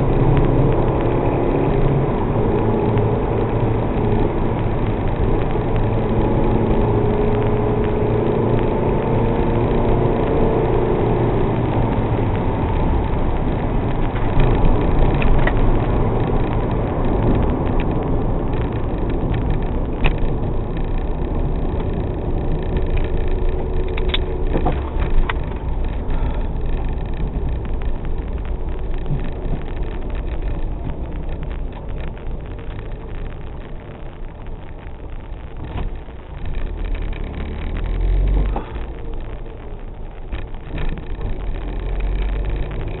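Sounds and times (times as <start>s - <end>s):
car engine: 0.0s - 43.0s
low rumbles: 0.0s - 43.0s
tyre noise: 0.0s - 43.0s.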